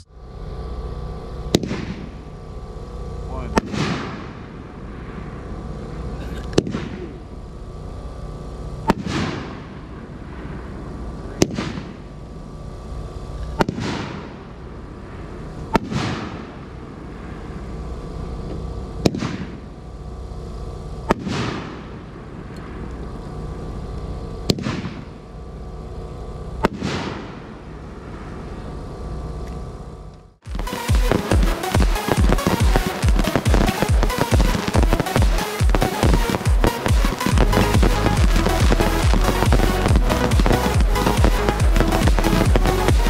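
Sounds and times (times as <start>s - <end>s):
firework reports with echo: 0.0s - 29.4s, 30.4s - 43.0s.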